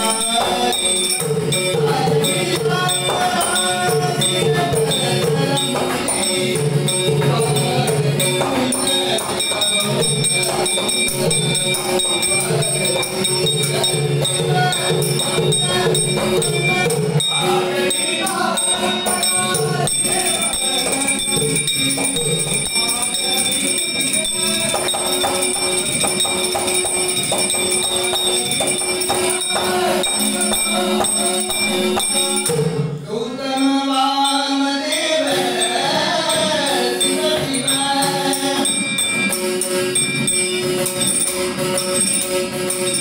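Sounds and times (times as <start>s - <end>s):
harmonium: 0.0s - 43.0s
jingling hand cymbals: 0.0s - 43.0s
man singing: 0.0s - 43.0s
tabla: 0.0s - 43.0s.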